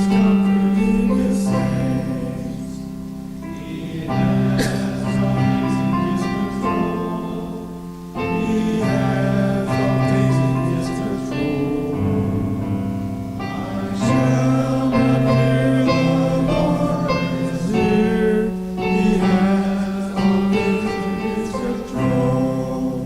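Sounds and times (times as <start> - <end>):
congregation singing a hymn: 0.0 - 23.0
piano accompaniment: 0.0 - 23.0.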